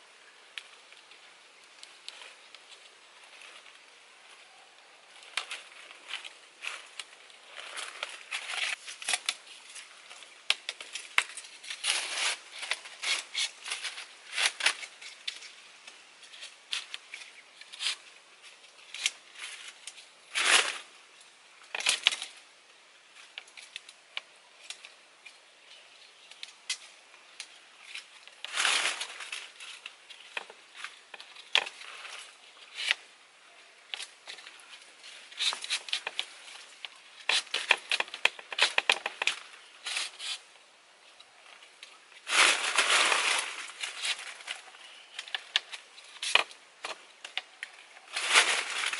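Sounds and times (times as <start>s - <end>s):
bamboo poles clicking and creaking: 0.0s - 48.9s.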